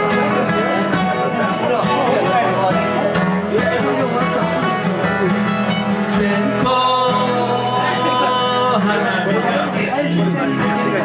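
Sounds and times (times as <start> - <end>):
acoustic guitar folk music: 0.0 - 11.0.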